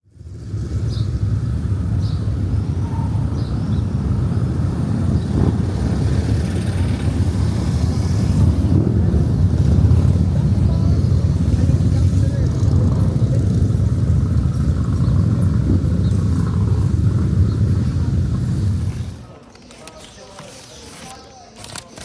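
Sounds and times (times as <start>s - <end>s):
low street rumble: 0.0s - 22.0s.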